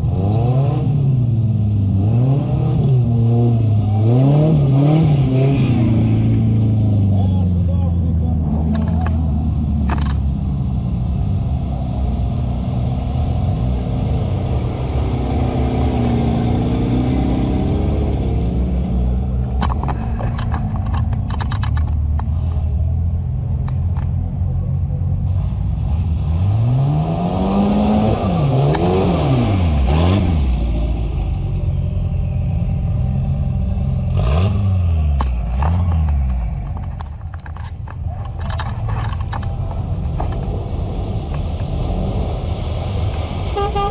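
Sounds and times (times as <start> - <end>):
off-road engine revving: 0.0 - 43.9.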